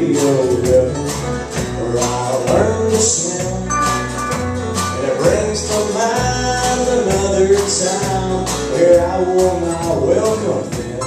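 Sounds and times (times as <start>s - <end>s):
live country band playing: 0.0s - 11.0s
steady drum beat: 0.0s - 11.0s.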